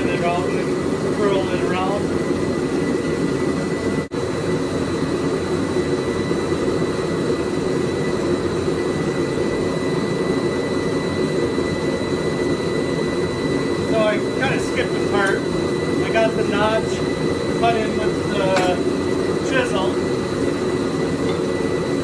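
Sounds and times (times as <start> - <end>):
forge running: 0.0 - 22.0.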